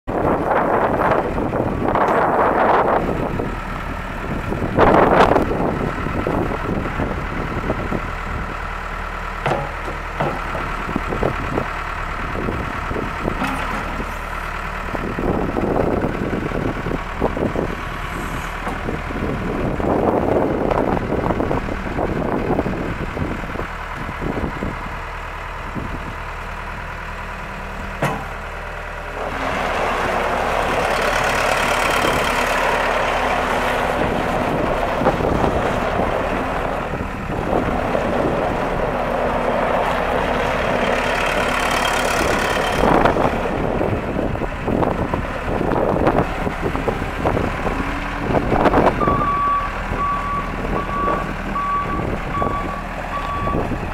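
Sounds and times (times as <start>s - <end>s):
diesel engine running: 0.1s - 53.9s
loader clanks and knocks: 0.4s - 53.9s.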